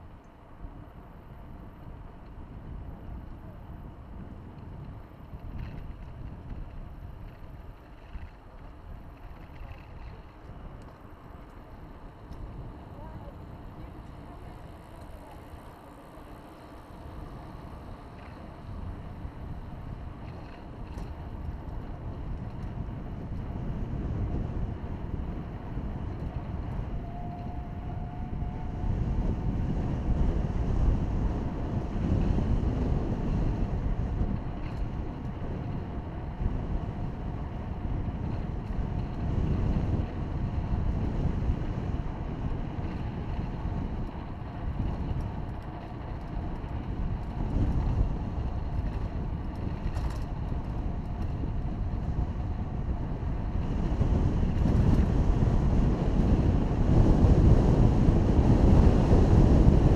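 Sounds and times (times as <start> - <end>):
faint steady whine: 0.0 - 59.9
wind buffeting microphone: 0.0 - 59.9.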